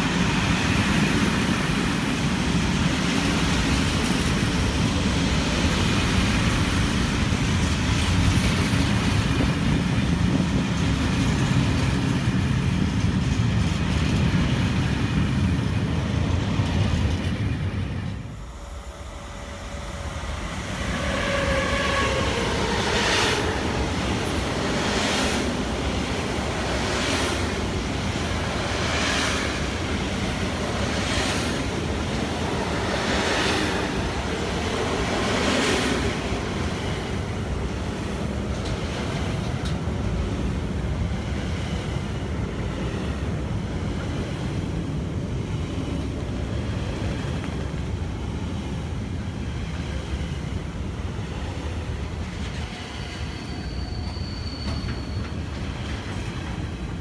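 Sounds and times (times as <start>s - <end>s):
electric locomotive hauling wagons: 0.0s - 57.0s
freight train rumble: 0.0s - 57.0s.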